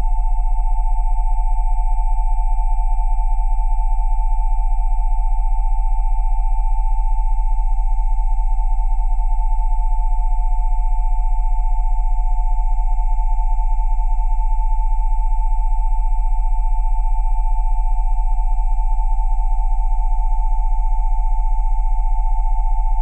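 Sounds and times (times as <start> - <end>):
pulsing sine tones: 0.0 - 23.0.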